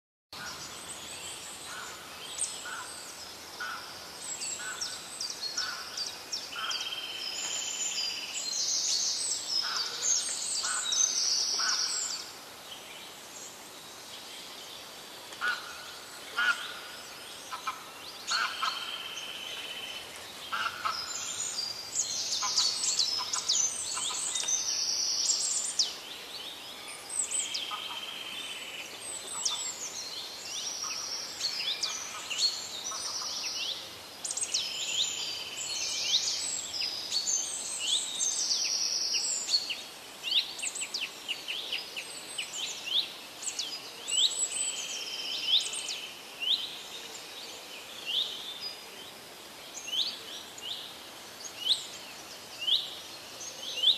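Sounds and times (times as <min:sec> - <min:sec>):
wild birds chirping: 0:00.3 - 0:53.9.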